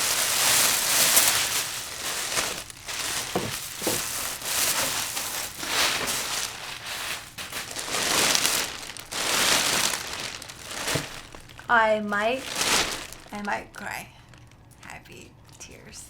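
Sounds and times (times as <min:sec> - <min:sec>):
packaging crinkling and rustling: 0:00.0 - 0:14.7.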